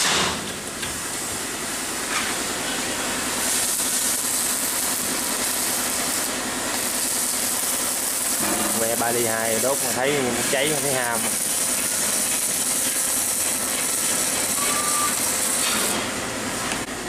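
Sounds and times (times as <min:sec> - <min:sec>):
welding arc crackling hiss: 0:00.0 - 0:17.0.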